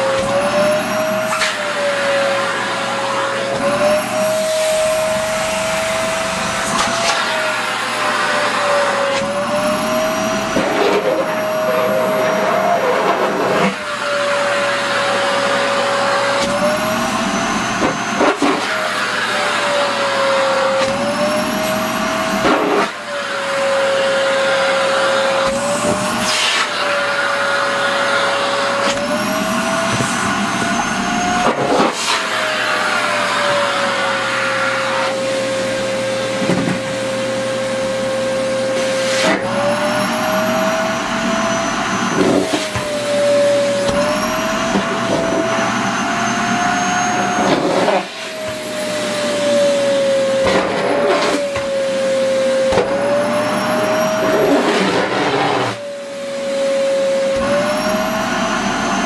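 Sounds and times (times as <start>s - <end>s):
vacuum cleaner motor: 0.0s - 59.0s.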